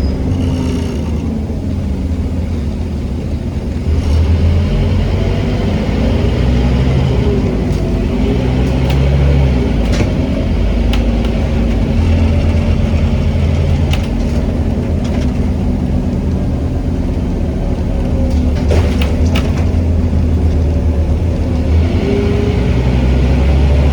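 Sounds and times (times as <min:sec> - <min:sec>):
bus body rattling and clicking: 0:00.0 - 0:23.9
bus engine running: 0:00.0 - 0:23.9.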